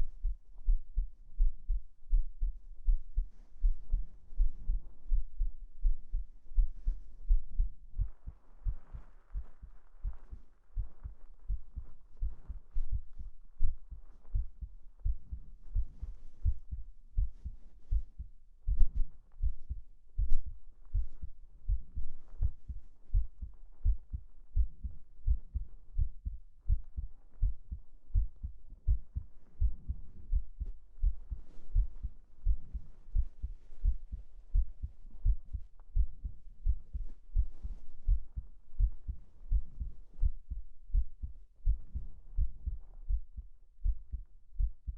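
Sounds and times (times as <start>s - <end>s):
heartbeat double thumps: 0.0s - 44.9s.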